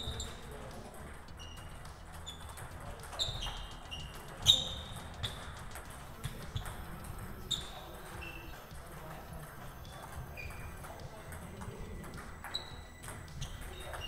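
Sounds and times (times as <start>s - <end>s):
table tennis ball hits: 0.0s - 14.0s.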